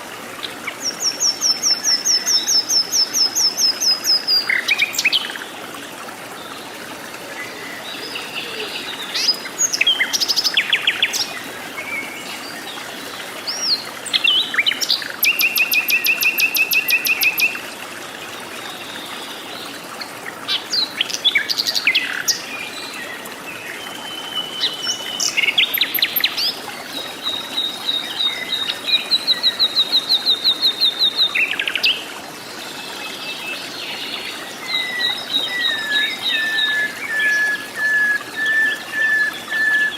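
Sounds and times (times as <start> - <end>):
forest birds chirping and trilling: 0.0 - 5.6, 6.3 - 39.9.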